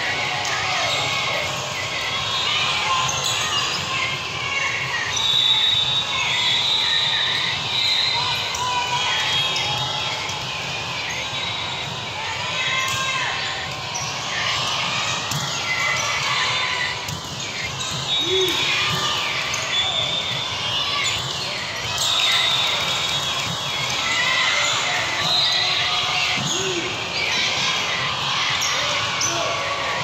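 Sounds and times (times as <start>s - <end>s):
players' voices in a hall: 0.0s - 30.0s.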